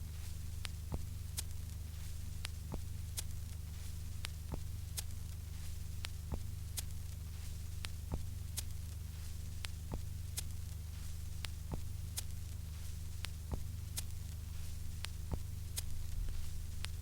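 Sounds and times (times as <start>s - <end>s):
record player low hum: 0.0s - 17.0s.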